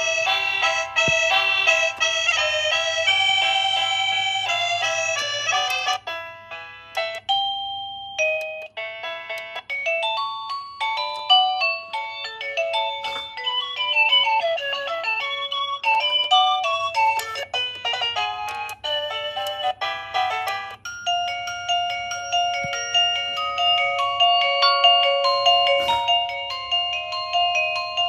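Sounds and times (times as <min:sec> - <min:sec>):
electronic doorbell chime melody: 0:00.0 - 0:28.0.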